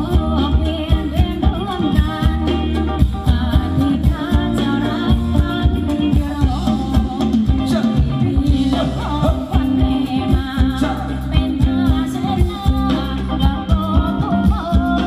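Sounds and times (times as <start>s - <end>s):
live band dance music: 0.0s - 15.0s
person singing: 0.0s - 15.0s
steady drum beat: 0.0s - 15.0s.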